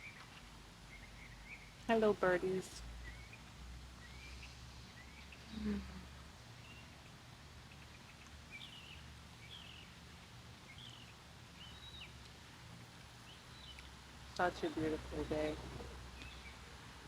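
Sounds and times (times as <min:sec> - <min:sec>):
small birds chirping: 0:00.0 - 0:16.7
low background rumble: 0:00.0 - 0:17.0.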